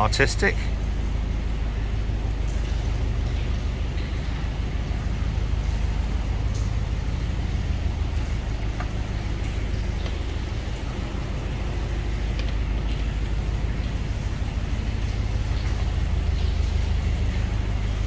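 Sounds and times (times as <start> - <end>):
boat diesel engine running: 0.0 - 18.0.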